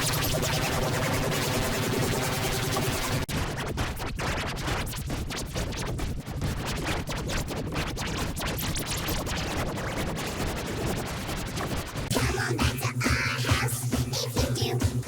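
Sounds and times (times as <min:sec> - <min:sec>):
harsh distorted noise with crackles: 0:00.0 - 0:12.1.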